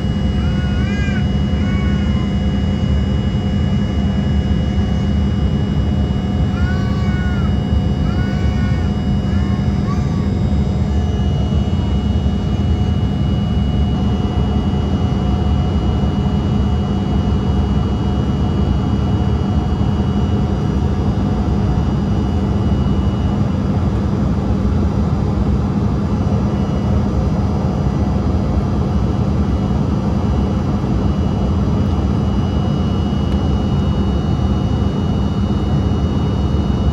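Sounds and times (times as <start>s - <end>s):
jet engines in flight: 0.0s - 36.9s.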